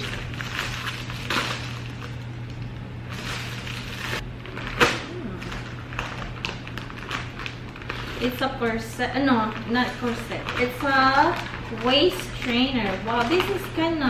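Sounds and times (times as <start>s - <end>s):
packaging rustling and tearing: 0.0s - 2.3s, 3.1s - 14.0s
steady low hum: 0.0s - 14.0s.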